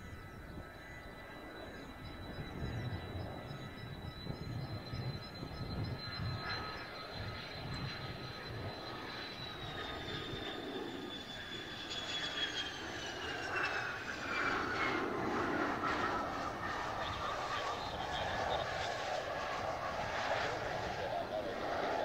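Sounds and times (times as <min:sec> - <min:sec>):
jet engine whining: 0:00.0 - 0:22.0.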